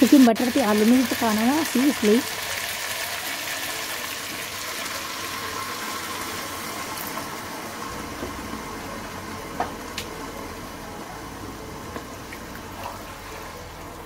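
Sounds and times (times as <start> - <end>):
food sizzling and bubbling: 0.0 - 14.0.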